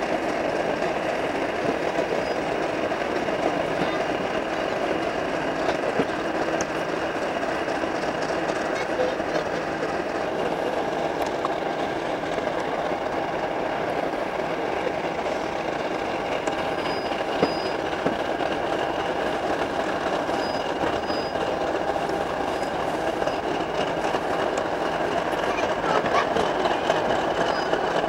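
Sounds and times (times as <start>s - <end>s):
train rumbling on track: 0.0s - 28.0s
wheels clicking on track: 0.0s - 28.0s
wheels squealing: 0.0s - 28.0s.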